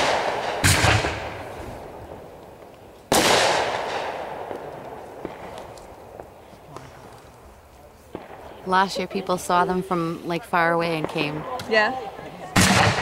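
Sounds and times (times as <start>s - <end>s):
fireworks bangs: 0.0s - 7.2s, 7.9s - 11.7s, 12.4s - 13.0s.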